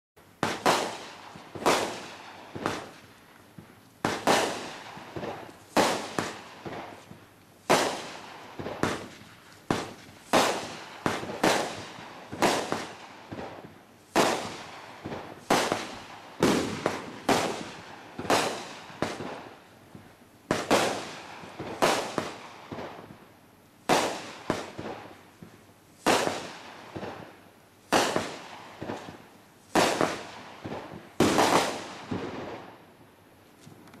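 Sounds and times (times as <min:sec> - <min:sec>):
firework shots banging and hissing: 0:00.4 - 0:32.8.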